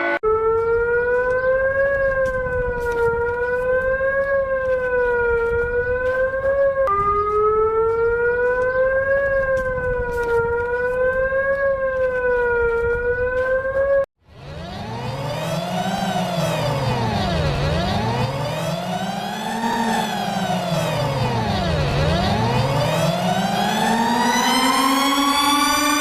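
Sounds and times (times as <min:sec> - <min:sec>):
emergency siren wailing: 0:00.0 - 0:26.0.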